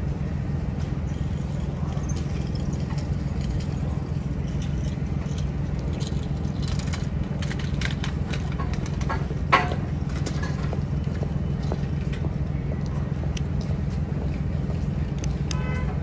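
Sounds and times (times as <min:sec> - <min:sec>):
city street rumble: 0:00.0 - 0:16.0.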